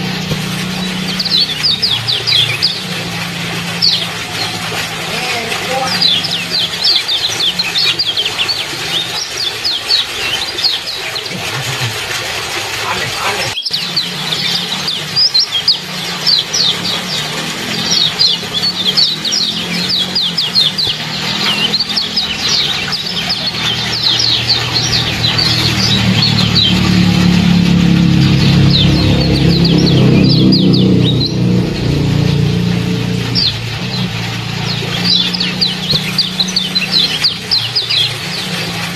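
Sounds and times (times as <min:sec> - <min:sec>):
birds chirping: 0:00.0 - 0:38.9
trickling water: 0:00.0 - 0:38.9.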